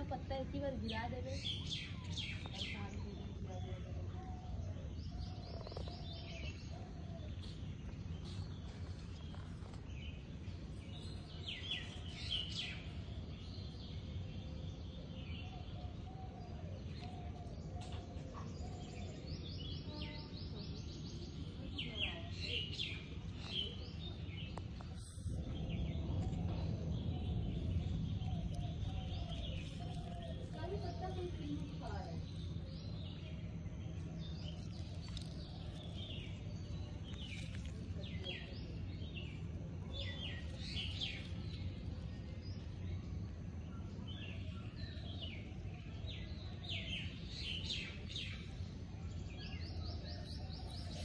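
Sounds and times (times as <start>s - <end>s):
faint bird chirps: 0.0s - 51.0s
low steady hum: 0.0s - 51.0s
steady low rumble: 0.0s - 51.0s.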